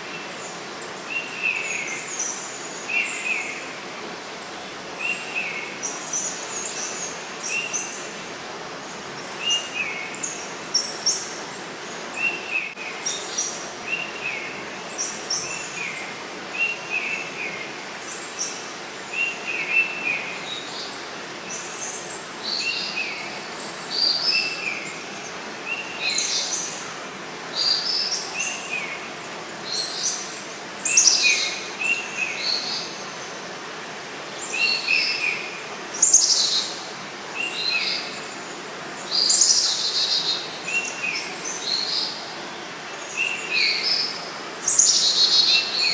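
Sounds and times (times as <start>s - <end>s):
flowing river water: 0.0s - 45.9s
songbirds calling: 0.0s - 45.9s.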